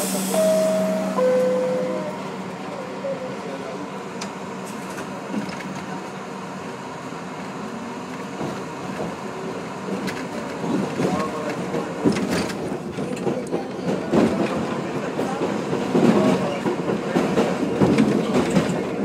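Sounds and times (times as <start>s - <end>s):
subway car hum and hiss: 0.0s - 19.0s.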